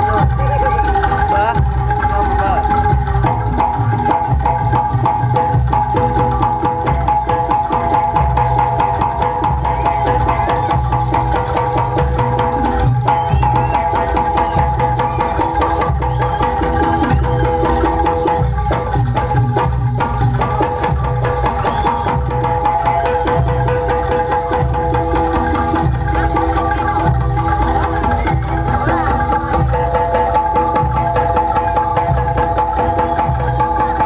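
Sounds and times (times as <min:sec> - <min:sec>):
gamelan held tones: 0:00.0 - 0:34.0
hand drums beating: 0:00.0 - 0:34.0.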